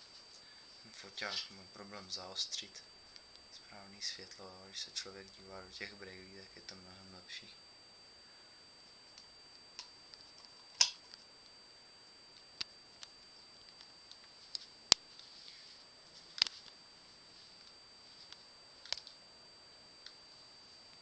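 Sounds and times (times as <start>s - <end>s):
high-pitched electronic whine: 0.0s - 21.0s.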